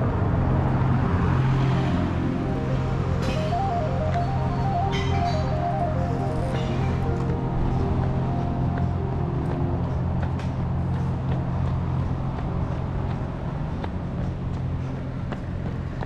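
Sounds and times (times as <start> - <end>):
traffic engine rumble: 0.0 - 16.0.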